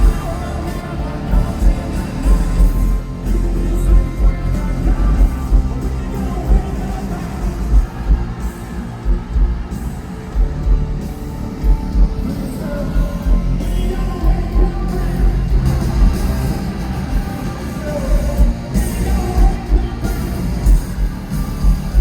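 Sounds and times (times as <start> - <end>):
person singing: 0.0 - 9.1, 11.9 - 22.0
bass guitar: 0.0 - 22.0
distorted electric guitars: 0.0 - 22.0.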